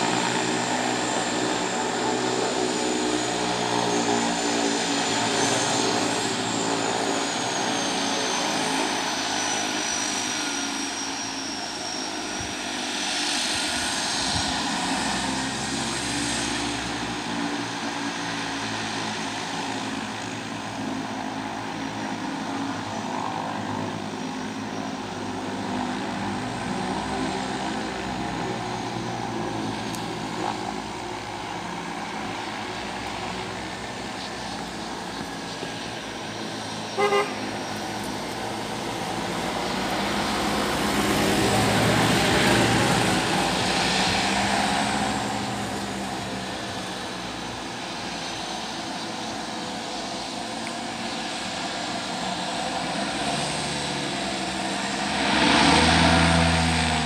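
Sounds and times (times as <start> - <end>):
high turbine whine: 0.0 - 57.0
propeller drone: 0.0 - 57.0.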